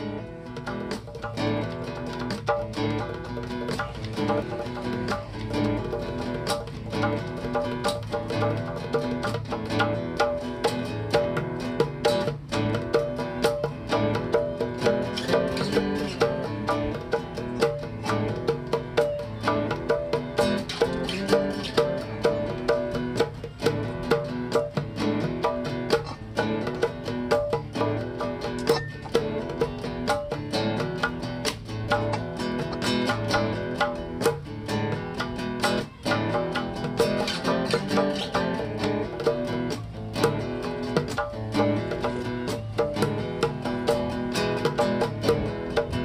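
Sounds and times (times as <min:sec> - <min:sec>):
fast plucked-string tune: 0:00.0 - 0:46.0.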